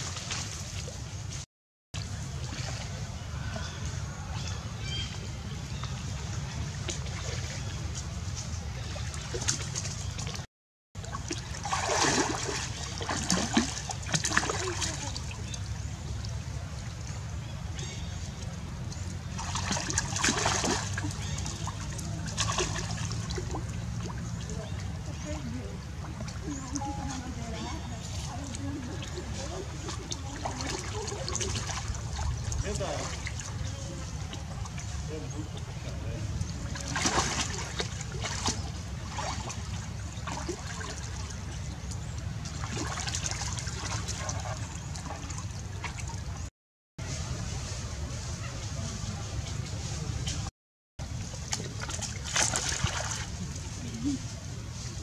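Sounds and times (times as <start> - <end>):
water splashing: 0.0 - 1.4, 2.0 - 3.7, 5.7 - 46.5, 47.1 - 55.0.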